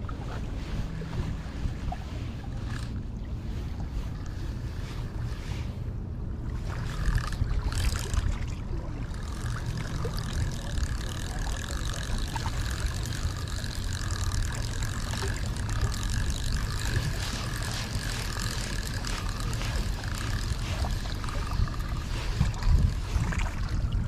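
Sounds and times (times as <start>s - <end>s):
steady low rumble: 0.0s - 24.0s
spinning reel rotor whirring: 0.7s - 3.0s, 3.7s - 24.0s.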